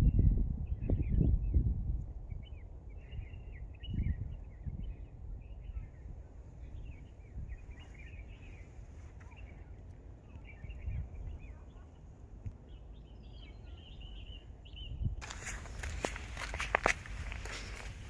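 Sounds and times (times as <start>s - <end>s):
small birds chirping: 2.3s - 18.0s.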